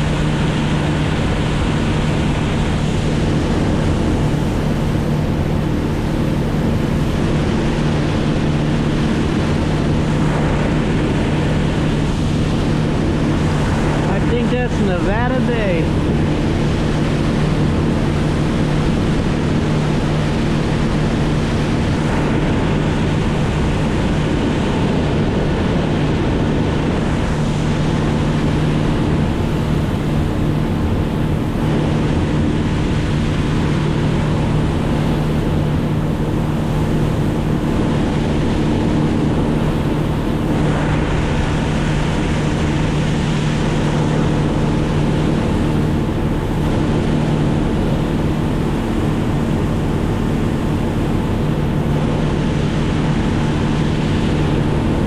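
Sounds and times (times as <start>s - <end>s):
motor engine running steadily: 0.0s - 55.0s
rushing wind or water: 0.0s - 55.0s.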